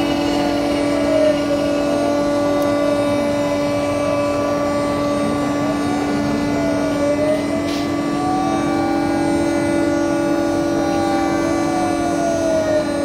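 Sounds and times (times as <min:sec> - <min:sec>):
router spindle whine: 0:00.0 - 0:13.0
stepper motors whining: 0:00.0 - 0:13.0.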